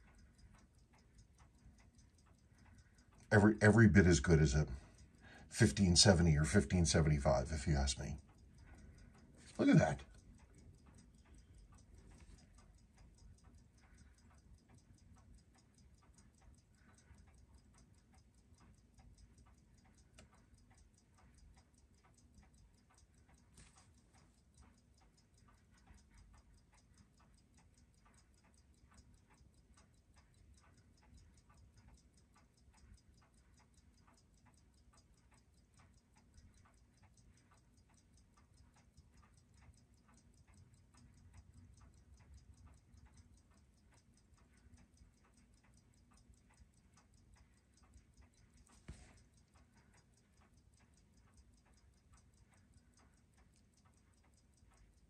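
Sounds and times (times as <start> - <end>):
watch ticking: 0.0 - 55.0.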